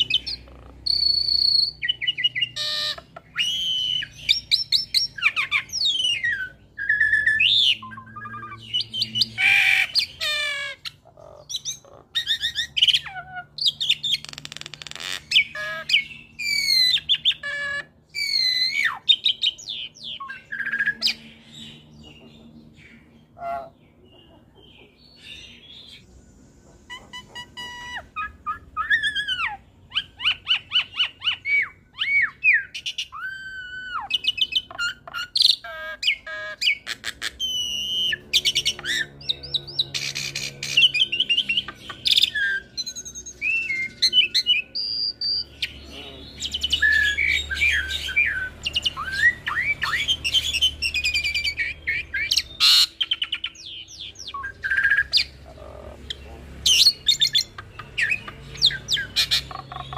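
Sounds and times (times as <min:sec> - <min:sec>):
starling singing: 0:00.0 - 0:59.9.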